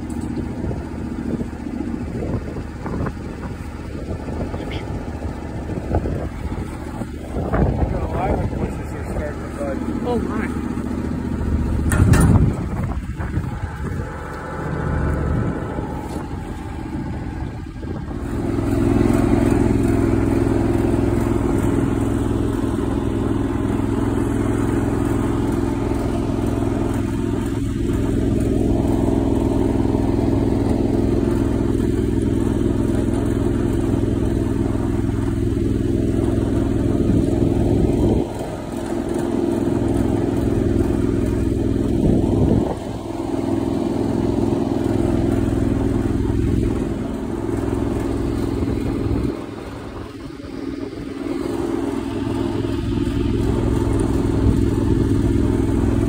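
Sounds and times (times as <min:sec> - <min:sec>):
small engine running steadily: 0:00.0 - 0:56.0.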